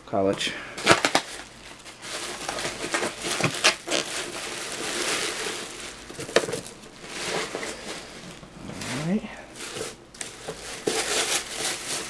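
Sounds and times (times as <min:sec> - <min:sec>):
bubble wrap crinkling: 0:00.8 - 0:12.0.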